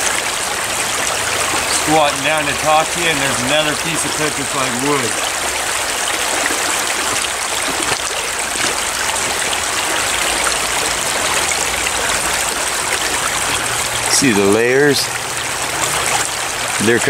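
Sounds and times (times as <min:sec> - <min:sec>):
creek babbling over rocks: 0:00.0 - 0:17.0.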